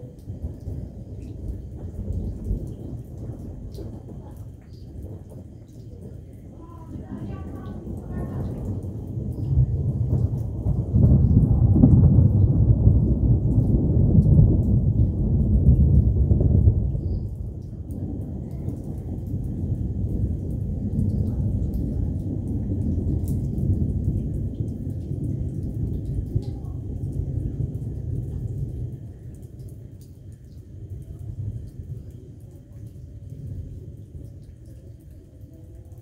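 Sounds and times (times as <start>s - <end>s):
thunder rumbling: 0.0s - 36.0s.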